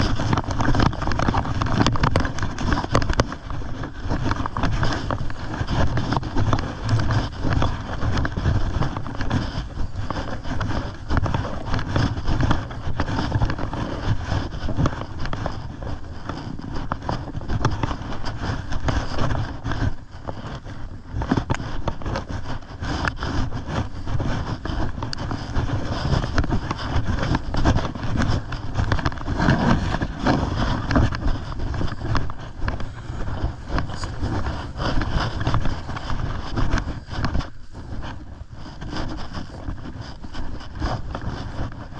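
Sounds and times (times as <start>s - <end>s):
footsteps through dry grass: 0.0s - 20.0s, 21.6s - 41.8s
low rumble on microphone: 0.0s - 41.9s.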